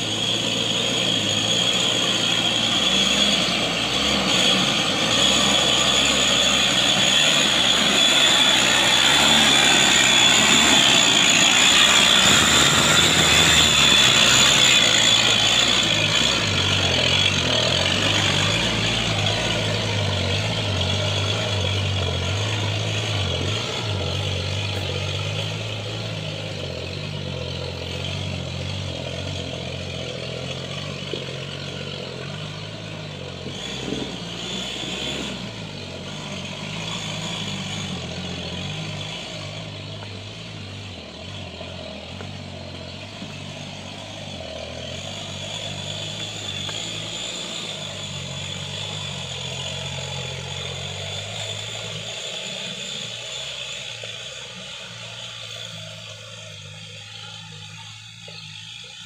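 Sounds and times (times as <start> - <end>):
high steady whine: 0.0 - 59.0
truck engine driving away: 0.0 - 59.0.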